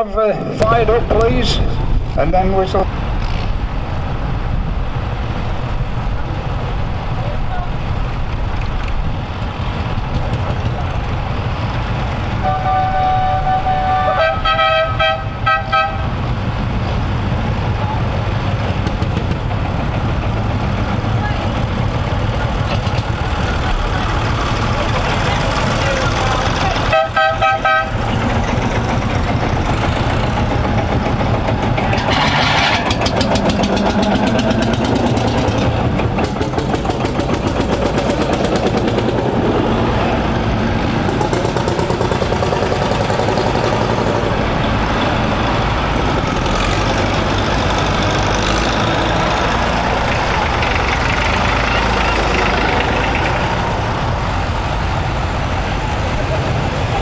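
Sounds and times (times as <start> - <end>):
tractor engines running and revving: 0.0 - 57.0.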